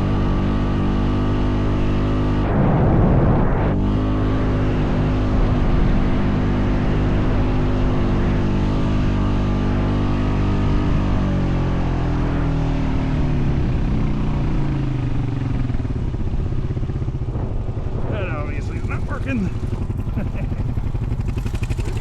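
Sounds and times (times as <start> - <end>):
atv engine running under load: 0.0 - 2.6, 3.8 - 22.0.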